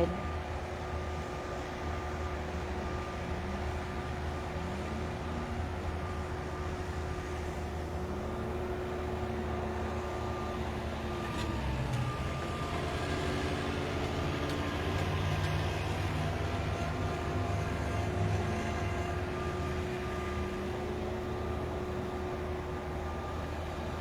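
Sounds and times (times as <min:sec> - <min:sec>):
construction machinery engines rumbling: 0:00.0 - 0:24.0.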